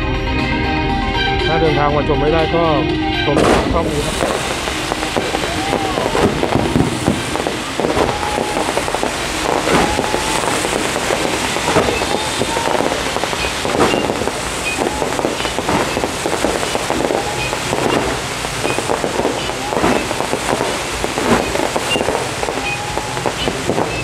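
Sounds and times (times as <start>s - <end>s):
fireworks bangs: 3.3s - 24.0s
fireworks crackling and popping: 3.3s - 24.0s.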